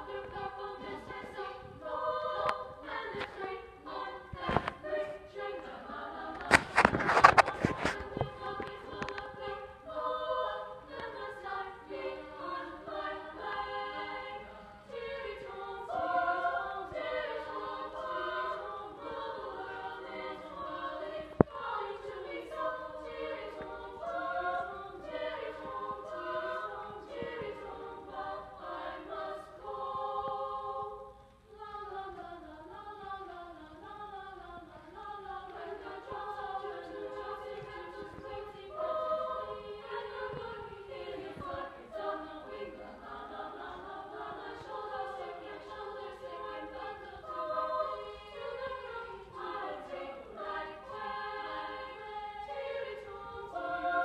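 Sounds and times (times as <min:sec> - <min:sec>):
girls' choir singing: 0:00.0 - 0:54.0.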